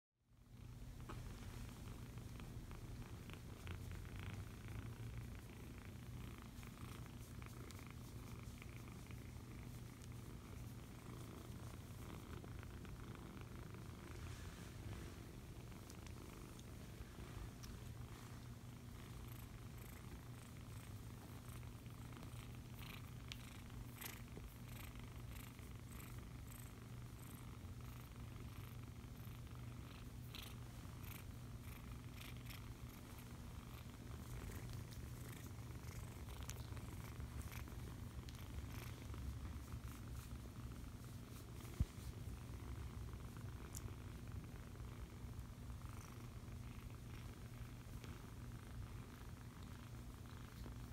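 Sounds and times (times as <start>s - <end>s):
kittens purring: 0.3s - 50.9s
faint rustles and clicks: 0.6s - 50.9s.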